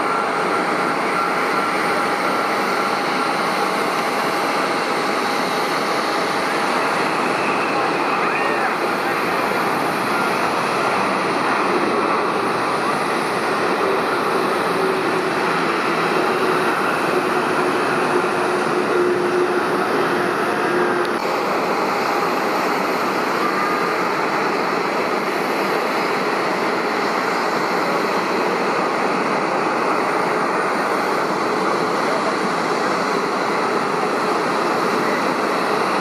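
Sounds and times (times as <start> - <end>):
jet engine rush: 0.0 - 36.0.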